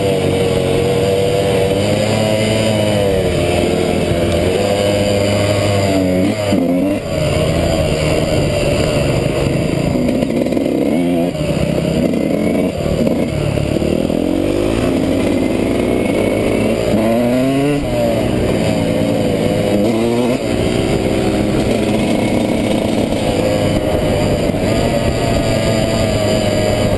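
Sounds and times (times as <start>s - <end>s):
dirt bike engine revving: 0.0s - 26.9s.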